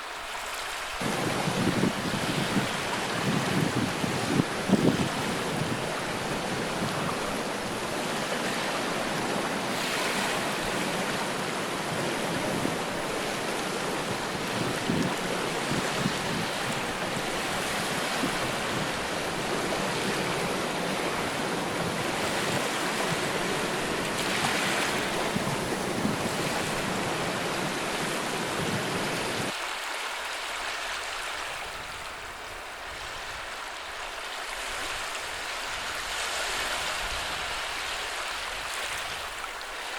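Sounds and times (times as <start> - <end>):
ocean surf washing ashore: 0.0 - 39.9.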